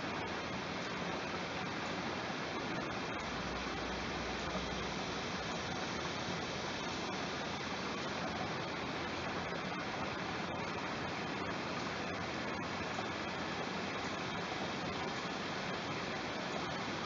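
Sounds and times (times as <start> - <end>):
waterfall rushing into creek: 0.0 - 17.0.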